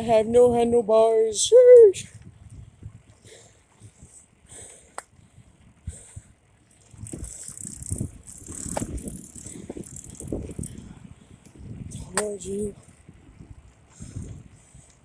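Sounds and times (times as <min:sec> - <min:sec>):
bicycle rattling: 0:00.0 - 0:15.0.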